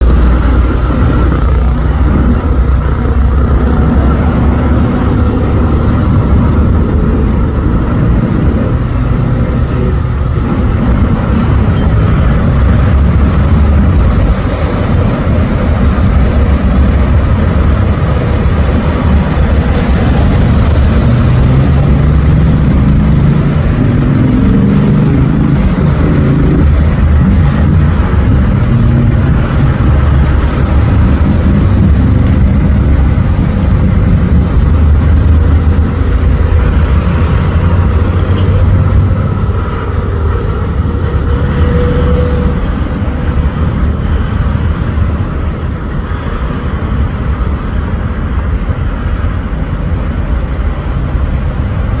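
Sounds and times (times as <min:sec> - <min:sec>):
airplane engine and propeller drone: 0:00.0 - 0:52.0.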